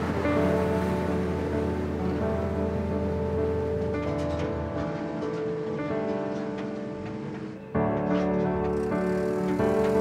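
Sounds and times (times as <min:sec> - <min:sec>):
background music with plucked notes: 0:00.0 - 0:10.0.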